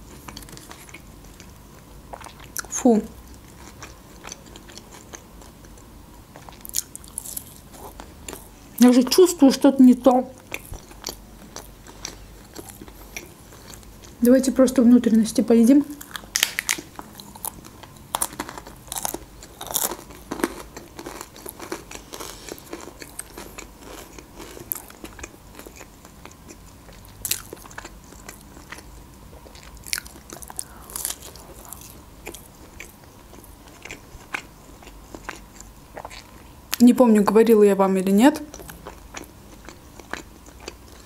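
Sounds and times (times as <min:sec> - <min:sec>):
person chewing fried chicken: 0:00.0 - 0:08.6, 0:10.4 - 0:14.2, 0:16.0 - 0:36.5, 0:38.5 - 0:41.0.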